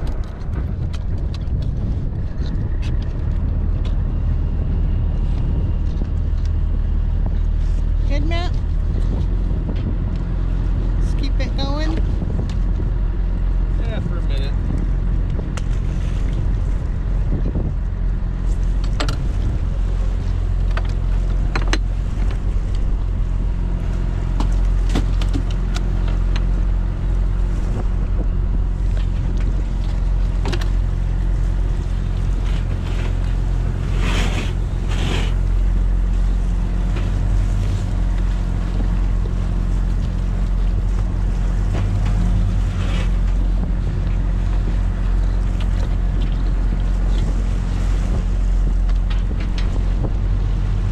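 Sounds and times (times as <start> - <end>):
boat engine humming: 0.0 - 50.9
wind and water noise: 0.0 - 50.9.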